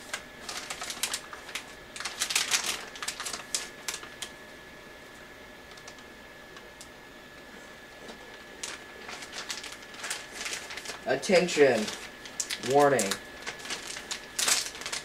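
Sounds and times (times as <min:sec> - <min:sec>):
packaging crinkling: 0:00.0 - 0:04.4, 0:05.6 - 0:06.9, 0:07.9 - 0:15.0.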